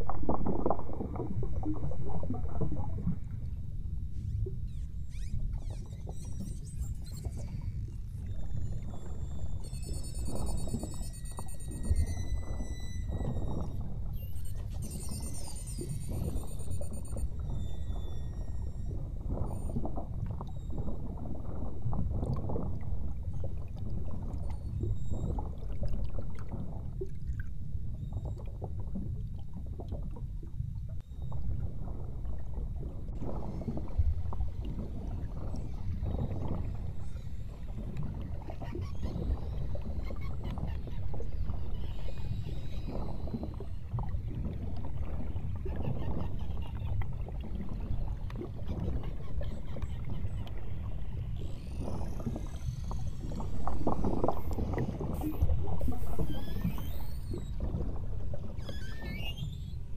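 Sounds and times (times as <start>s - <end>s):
water lapping against boat hull: 4.1s - 59.9s.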